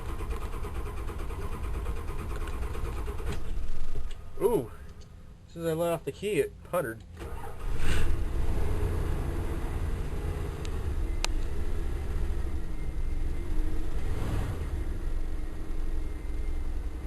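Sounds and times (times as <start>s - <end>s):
van engine idling: 0.0s - 17.0s.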